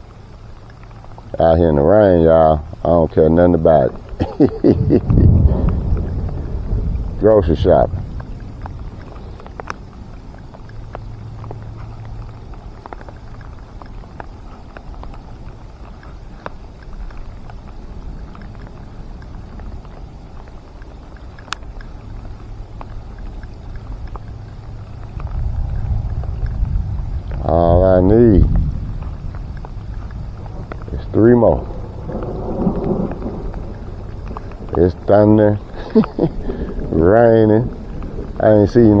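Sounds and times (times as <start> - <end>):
rain falling: 0.0 - 39.0
raindrops ticking close by: 0.0 - 39.0
steady low rumble: 0.0 - 39.0.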